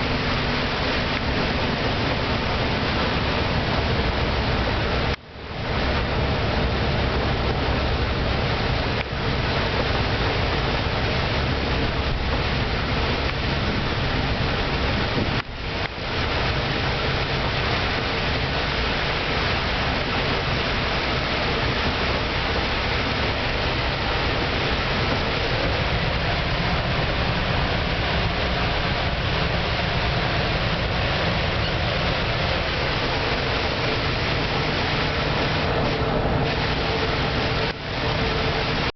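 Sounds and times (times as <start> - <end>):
bus engine humming: 0.0 - 38.9
tyres on wet road hiss: 0.0 - 38.9.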